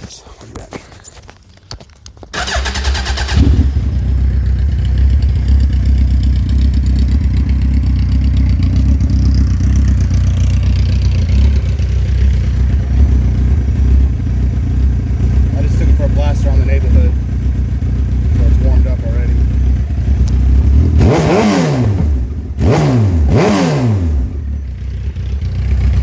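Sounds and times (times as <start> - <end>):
motorcycle engine starting and idling: 2.2 - 26.0.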